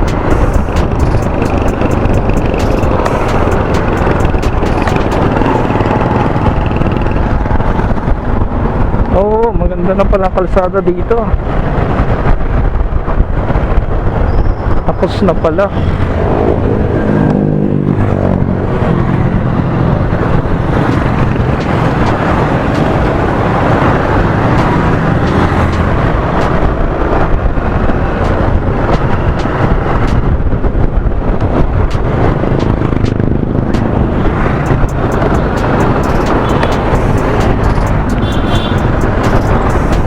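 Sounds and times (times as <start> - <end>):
motorcycle engine running: 0.0 - 9.0, 16.0 - 40.0
wind rushing over microphone: 0.0 - 40.0.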